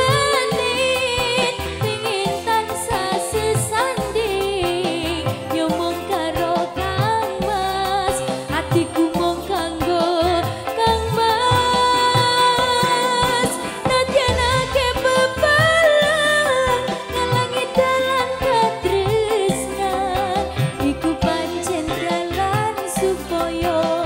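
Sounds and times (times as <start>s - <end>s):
instrumental accompaniment: 0.0s - 24.0s
woman singing with vibrato: 0.0s - 24.0s.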